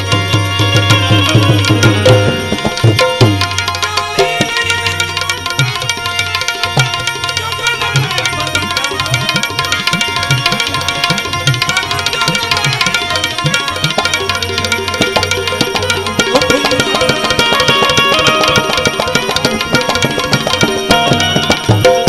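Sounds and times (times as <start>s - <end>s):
tabla playing fast strokes: 0.0s - 22.0s.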